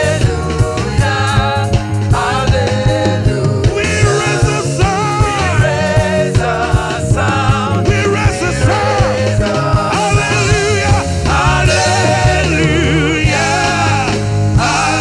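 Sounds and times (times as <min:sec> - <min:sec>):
gospel band playing: 0:00.0 - 0:15.0
people singing: 0:00.0 - 0:15.0.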